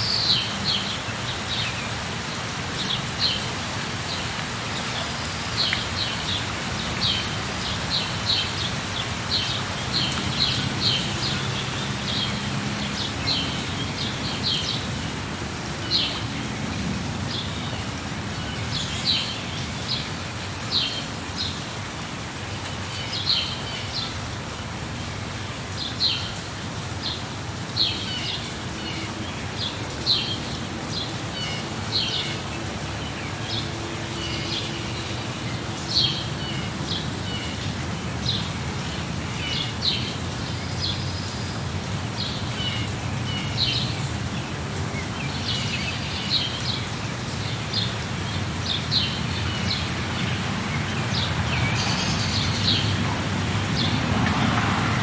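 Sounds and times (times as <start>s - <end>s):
falling rain hiss: 0.0s - 55.0s.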